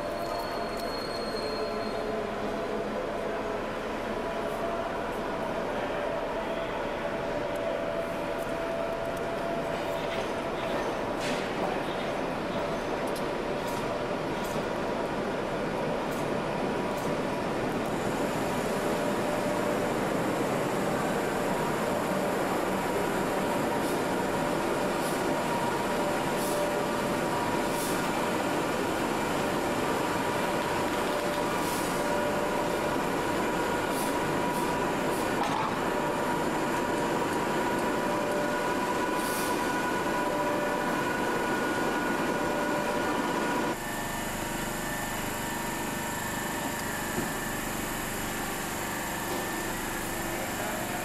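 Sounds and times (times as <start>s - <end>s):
electric locomotive humming: 0.0s - 51.0s.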